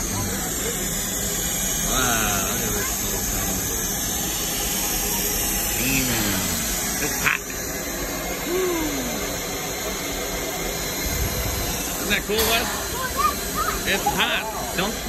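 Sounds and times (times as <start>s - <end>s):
steam hissing from pipe: 0.0s - 15.0s.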